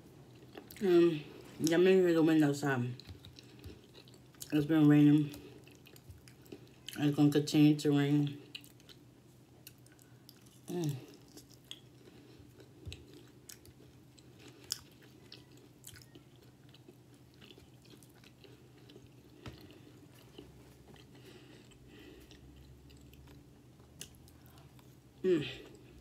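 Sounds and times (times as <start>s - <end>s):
low room hum: 0.0s - 26.0s
person chewing food: 0.2s - 1.7s, 3.0s - 7.0s, 8.4s - 26.0s.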